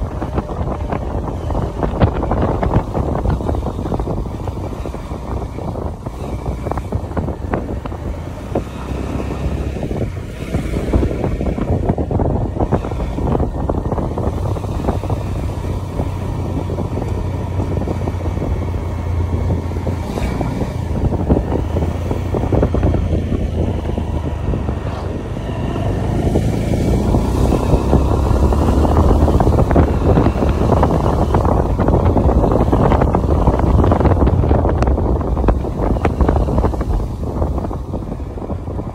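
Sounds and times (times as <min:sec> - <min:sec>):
motorcycle engine: 0:00.0 - 0:38.9
road noise: 0:00.0 - 0:38.9
wind buffeting microphone: 0:00.0 - 0:38.9.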